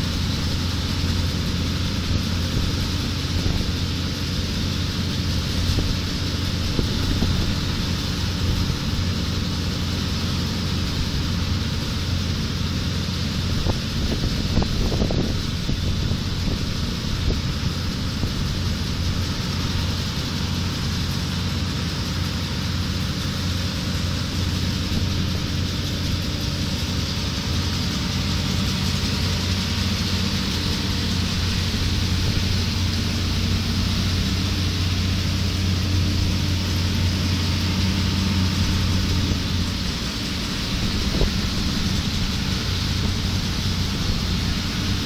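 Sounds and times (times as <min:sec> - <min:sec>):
low engine hum: 0:00.0 - 0:45.0
rushing machine noise: 0:00.0 - 0:45.0.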